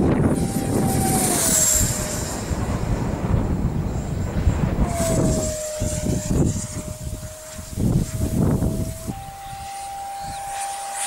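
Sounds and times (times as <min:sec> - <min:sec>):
fighter jet flying past: 0:00.0 - 0:11.0
jet engine whine: 0:00.0 - 0:11.0.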